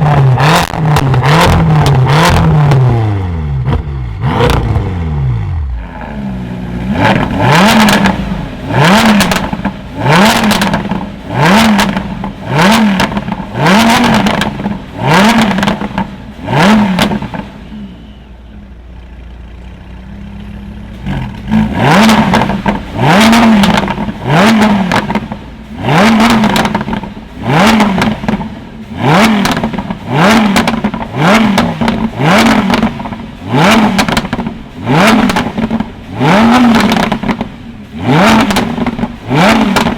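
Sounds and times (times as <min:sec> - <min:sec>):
car engine revving: 0:00.0 - 0:18.2, 0:19.6 - 0:39.9.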